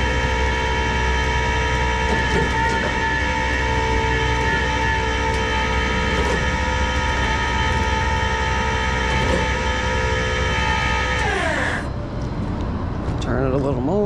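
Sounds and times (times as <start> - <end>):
tow truck engine at raised revs: 0.0 - 12.1
high mechanical whine: 0.0 - 14.0.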